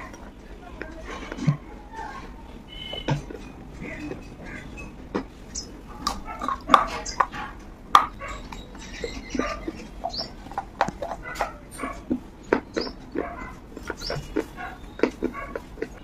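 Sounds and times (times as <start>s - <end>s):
crunching and chewing food: 0.0s - 16.0s.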